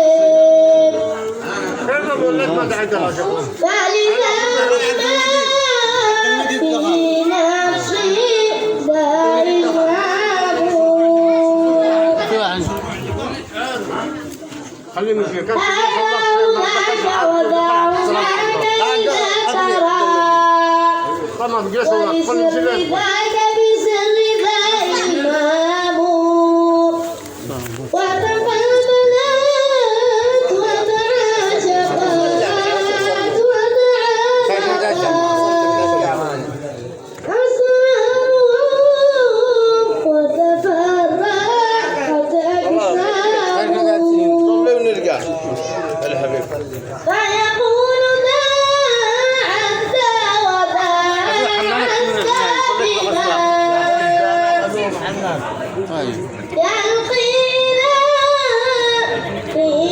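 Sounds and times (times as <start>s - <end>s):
boy singing devotional chant: 0.0s - 59.9s.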